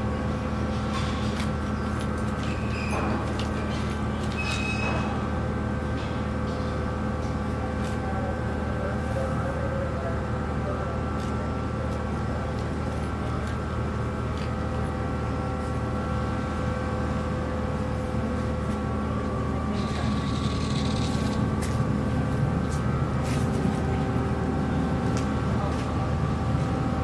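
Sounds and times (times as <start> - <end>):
ship diesel engines droning: 0.0 - 27.0.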